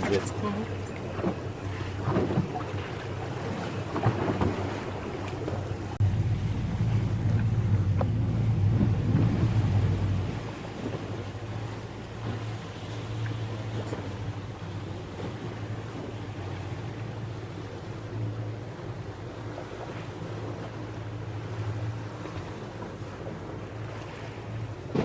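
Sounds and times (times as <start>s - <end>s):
sea water washing: 0.0s - 25.0s
speedboat engine running: 0.0s - 25.0s.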